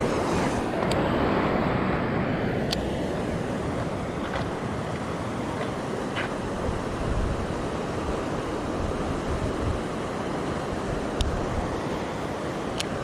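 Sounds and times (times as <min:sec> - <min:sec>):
flowing river water: 0:00.0 - 0:13.0
wind buffeting microphone: 0:00.0 - 0:13.0.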